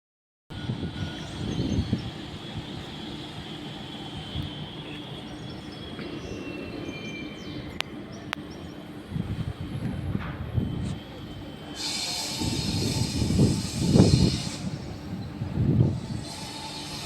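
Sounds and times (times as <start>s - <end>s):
train rumbling: 0.5s - 17.0s.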